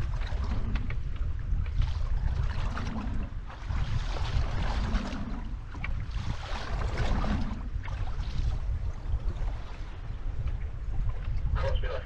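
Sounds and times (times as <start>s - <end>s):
sea water sloshing around boat: 0.0s - 12.0s
wind rumbling on microphone: 0.0s - 12.0s.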